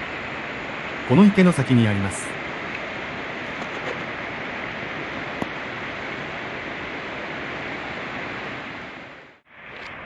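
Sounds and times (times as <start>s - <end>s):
water rushing: 0.0s - 10.0s.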